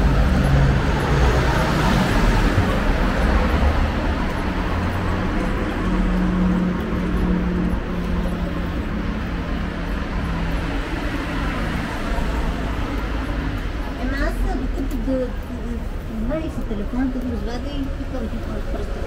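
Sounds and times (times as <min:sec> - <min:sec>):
car passing: 0:00.0 - 0:19.0.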